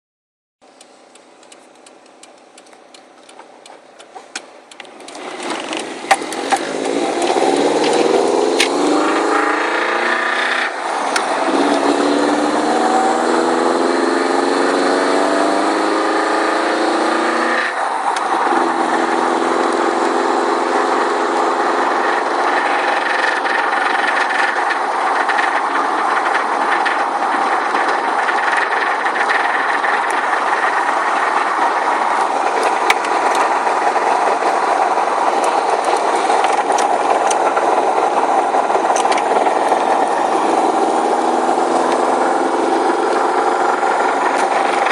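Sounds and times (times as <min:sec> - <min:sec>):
car engine accelerating: 0:00.9 - 0:44.9.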